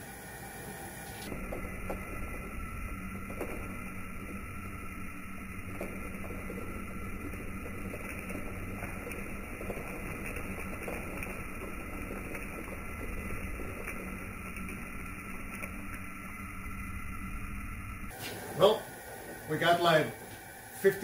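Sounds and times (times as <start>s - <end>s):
gas burner rushing: 0.0s - 21.0s
liquid bubbling at a boil: 0.0s - 21.0s.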